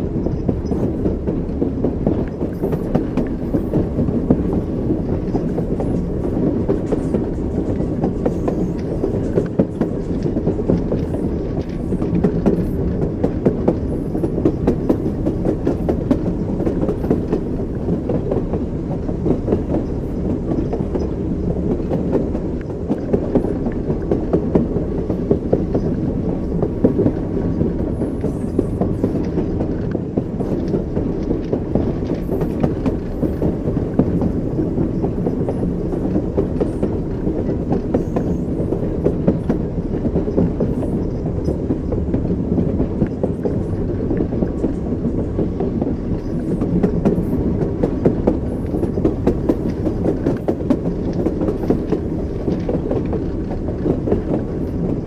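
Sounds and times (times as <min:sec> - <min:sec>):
train rumbling: 0:00.0 - 0:55.0
wheels clacking over rail joints: 0:00.0 - 0:55.0.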